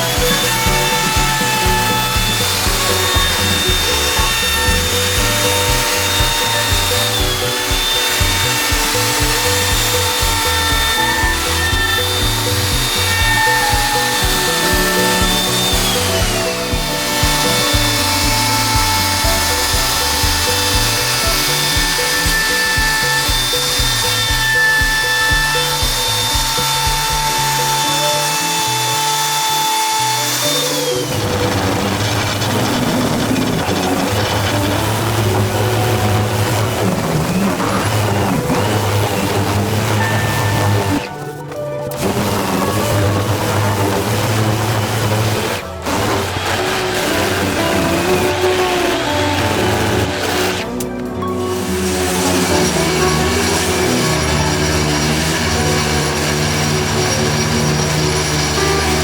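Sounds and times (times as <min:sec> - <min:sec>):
background music: 0:00.0 - 0:59.0
power tool whining: 0:00.0 - 0:59.0.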